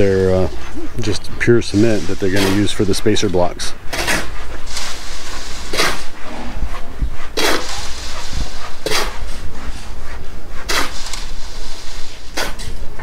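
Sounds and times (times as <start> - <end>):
shovel scraping cement mix: 1.4 - 9.9, 10.6 - 12.7.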